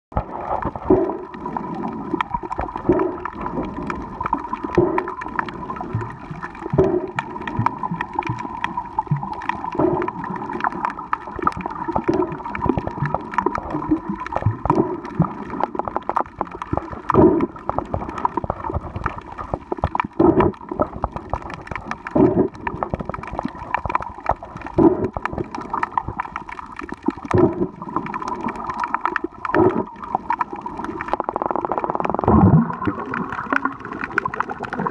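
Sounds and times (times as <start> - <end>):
sharp underwater clicks: 0.1 - 34.9
underwater gurgling and rushing water: 0.1 - 34.9.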